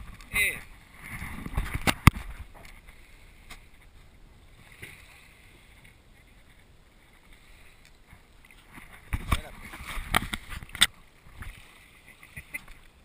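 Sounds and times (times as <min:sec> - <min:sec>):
muffled water lapping: 0:00.0 - 0:13.0.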